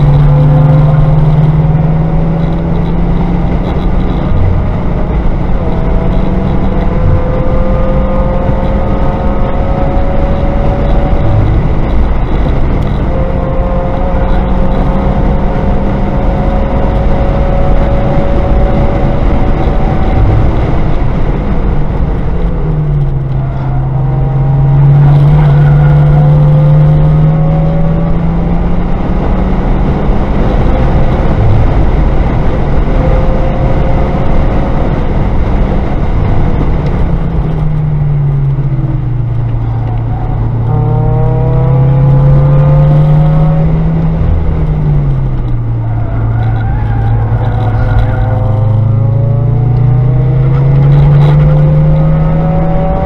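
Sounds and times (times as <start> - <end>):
car engine from inside cabin: 0.0 - 53.0
road and wind noise: 0.0 - 53.0.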